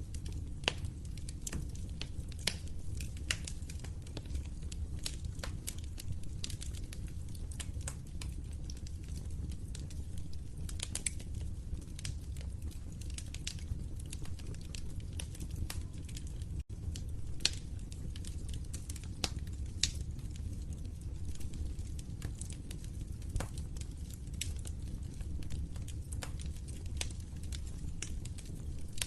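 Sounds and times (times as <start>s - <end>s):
fire popping and snapping: 0.0s - 29.0s
low rumble of flames: 0.0s - 29.0s.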